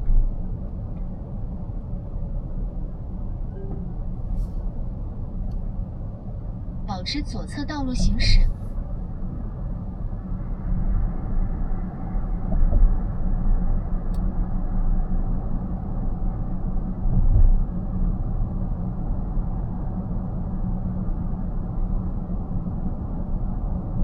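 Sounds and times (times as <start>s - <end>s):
road and tyre rumble in car: 0.0s - 24.0s.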